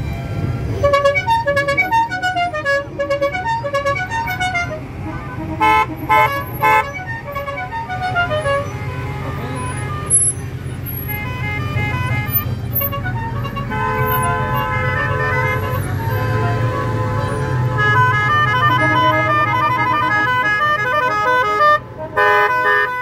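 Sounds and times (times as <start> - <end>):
low rumble of traffic: 0.0 - 23.0
loud horn honks: 0.3 - 23.0
musical car horn tune: 0.8 - 23.0.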